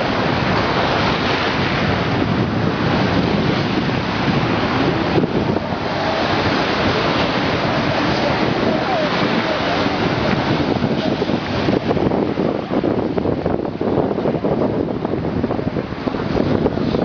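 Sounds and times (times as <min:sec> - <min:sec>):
water rushing and splashing: 0:00.0 - 0:17.0
wind noise on microphone: 0:00.0 - 0:17.0.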